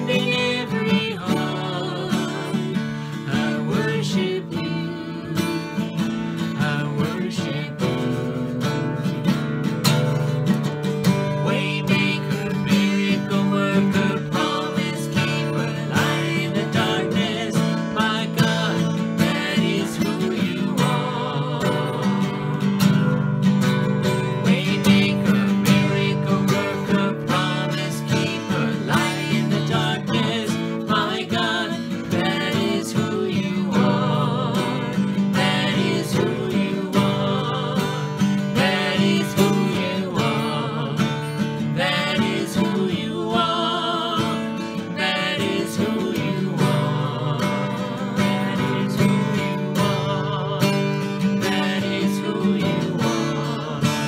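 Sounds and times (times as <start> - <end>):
man and woman singing: 0.0 - 8.9, 11.1 - 23.0, 24.1 - 54.0
strummed acoustic guitar: 0.0 - 54.0.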